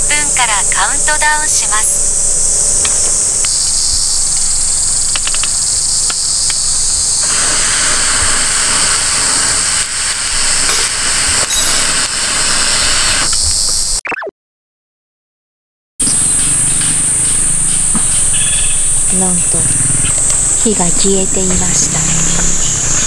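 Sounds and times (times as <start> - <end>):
high-pitched insect chorus: 0.0 - 14.0, 16.0 - 23.0.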